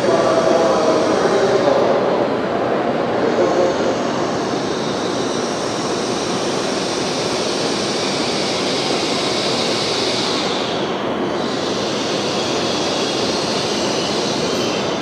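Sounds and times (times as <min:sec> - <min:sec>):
high train whine: 0:00.0 - 0:15.0
train running noise: 0:00.0 - 0:15.0.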